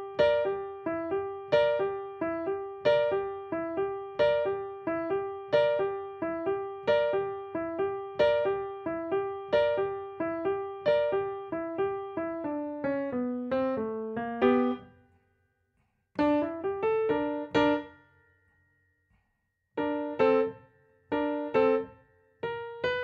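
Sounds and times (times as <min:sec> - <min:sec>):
piano boogie-woogie melody: 0:00.0 - 0:14.9, 0:16.2 - 0:18.0, 0:19.8 - 0:23.0.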